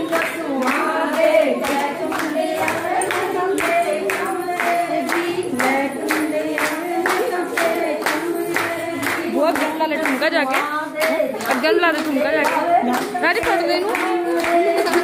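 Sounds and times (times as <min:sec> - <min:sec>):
rhythmic hand-clapping: 0:00.0 - 0:15.0
women singing together: 0:00.0 - 0:15.0.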